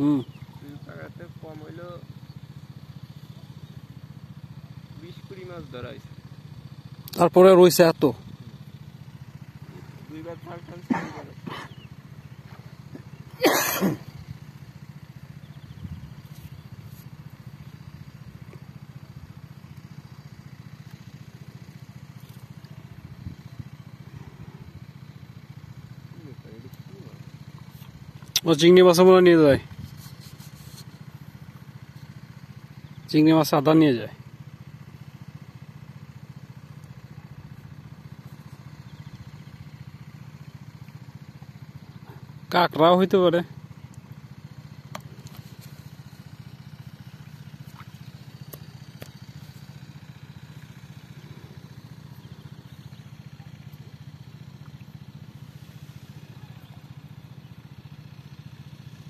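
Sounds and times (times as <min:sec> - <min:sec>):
water pump engine droning: 0:00.0 - 0:59.0.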